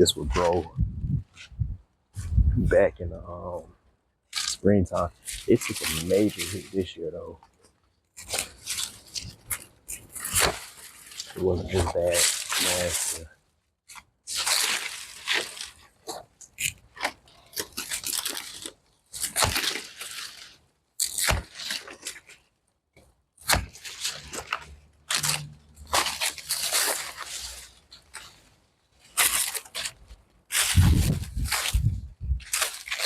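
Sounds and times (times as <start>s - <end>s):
dry plants crunching and tearing: 0.0s - 2.8s, 4.3s - 13.2s, 13.9s - 22.5s, 23.4s - 33.0s.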